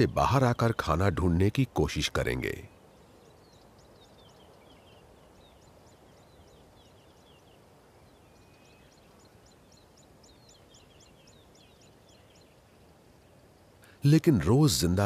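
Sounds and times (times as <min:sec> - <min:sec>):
birds chirping: 0:00.0 - 0:15.0
low steady background hiss: 0:00.0 - 0:15.0.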